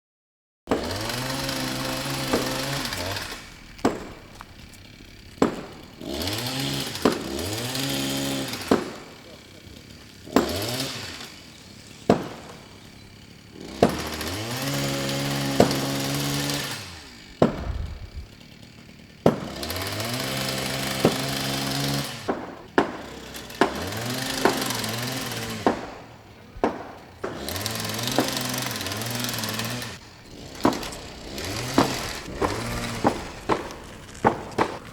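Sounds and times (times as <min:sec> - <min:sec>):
sharp knocks and cracks: 0:00.7 - 0:09.3, 0:10.3 - 0:11.4, 0:12.1 - 0:12.8, 0:13.5 - 0:34.9
chainsaw revving: 0:00.7 - 0:34.9.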